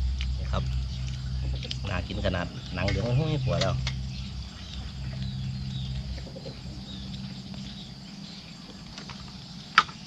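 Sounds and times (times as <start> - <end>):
chickens clucking: 0.0 - 10.0
low hum: 0.0 - 10.0
small birds chirping: 0.0 - 10.0.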